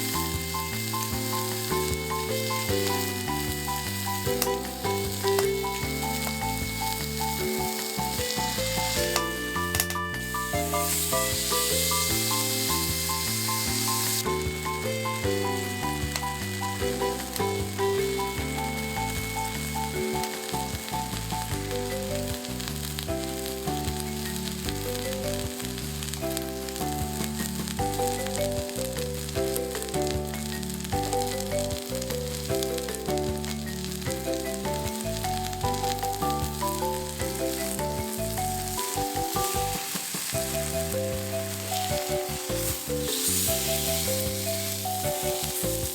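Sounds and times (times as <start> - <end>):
background music: 0.0 - 45.9
steak sizzling in frying pan: 0.0 - 45.9.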